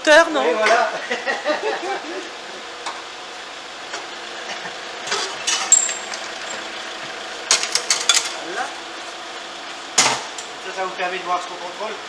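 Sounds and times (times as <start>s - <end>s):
engine idling: 0.8s - 12.0s.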